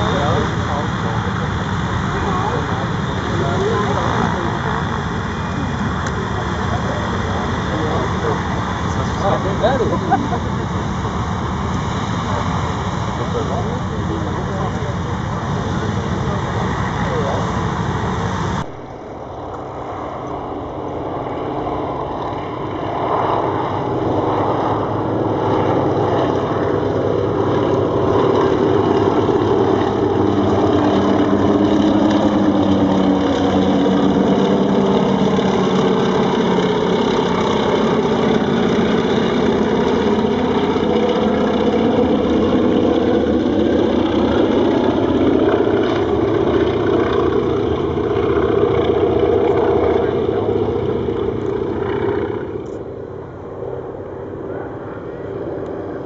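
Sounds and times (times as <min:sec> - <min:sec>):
radial aircraft engines droning: 0:00.0 - 0:56.0.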